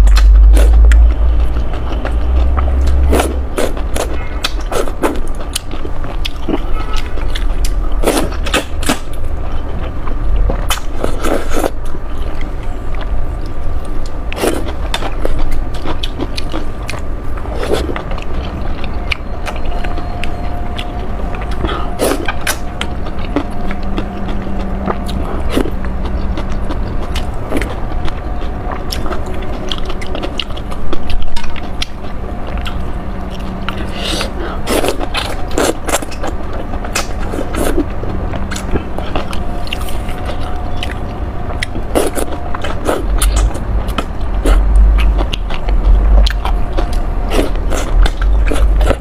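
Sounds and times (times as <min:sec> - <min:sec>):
chewing and biting noodles: 0:00.0 - 0:49.0
faint steady hum: 0:00.0 - 0:49.0.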